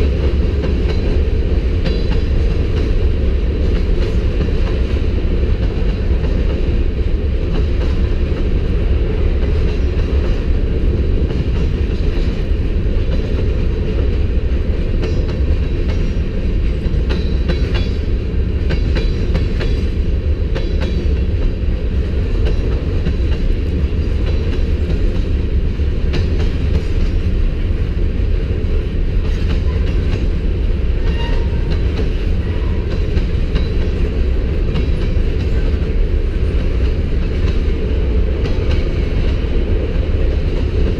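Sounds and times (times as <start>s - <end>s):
wheels clicking over rail joints: 0.0s - 27.8s, 28.4s - 40.9s
freight train rumbling past: 0.0s - 40.9s.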